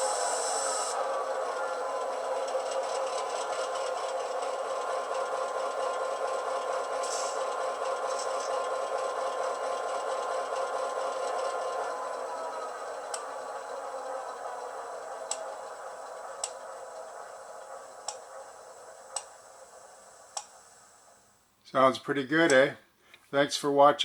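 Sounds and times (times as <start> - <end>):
model train diesel engine sound: 0.0 - 22.7.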